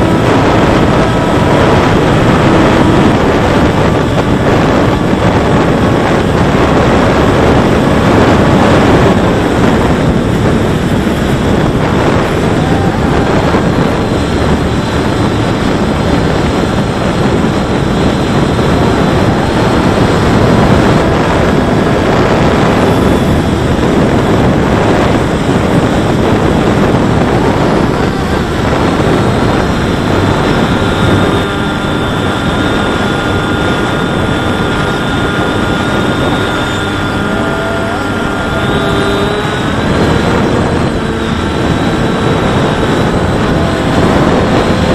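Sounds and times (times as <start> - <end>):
electric motor and propeller: 0.0 - 44.9
faint steady whine: 0.0 - 44.9
wind rushing: 0.0 - 44.9.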